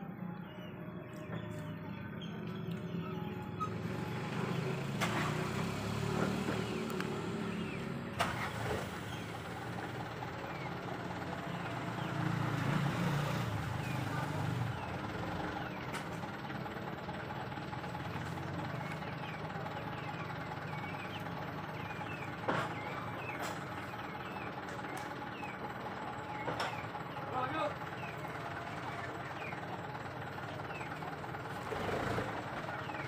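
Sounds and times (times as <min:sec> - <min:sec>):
vehicle engine idling hum: 0:00.0 - 0:33.0.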